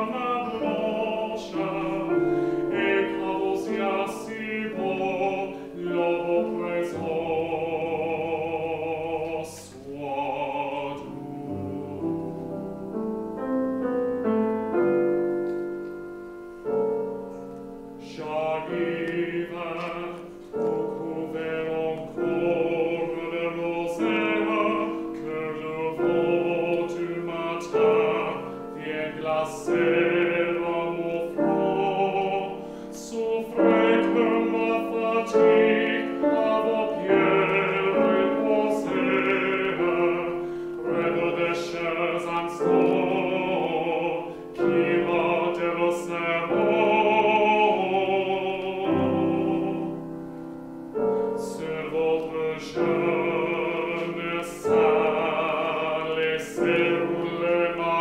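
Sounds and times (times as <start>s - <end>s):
classical singer singing: 0.0s - 58.0s
piano accompaniment: 0.0s - 58.0s.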